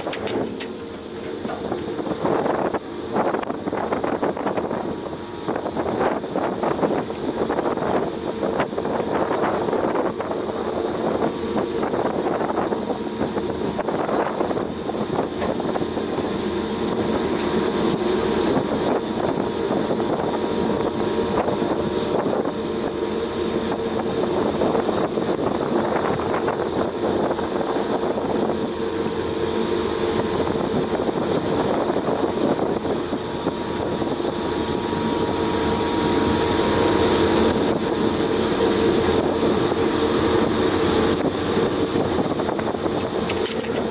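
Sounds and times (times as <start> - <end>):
wood chipper hum: 0.0 - 43.9.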